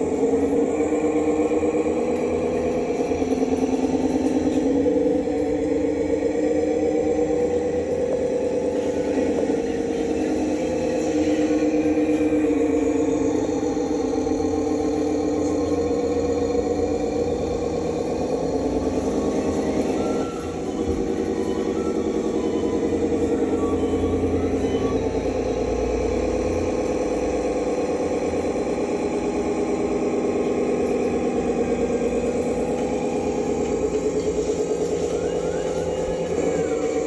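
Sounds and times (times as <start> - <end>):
radio-controlled vehicles droning: 0.0 - 37.0.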